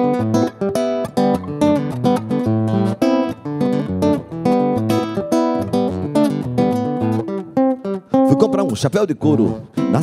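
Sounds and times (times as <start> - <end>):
nylon-string guitar strumming: 0.0 - 10.0.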